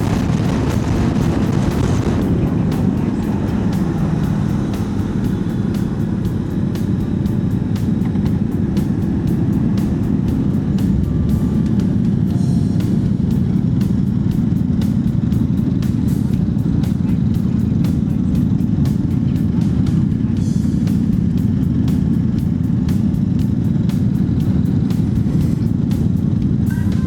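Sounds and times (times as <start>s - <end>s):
engine crackles: 0.0s - 27.0s
motorcycle engine droning: 0.0s - 27.0s.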